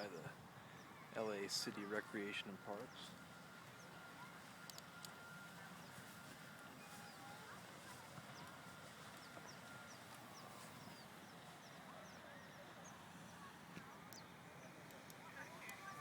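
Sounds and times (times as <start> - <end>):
lower gliding bird calls: 0.0 - 16.0
small birds chirping: 0.0 - 16.0.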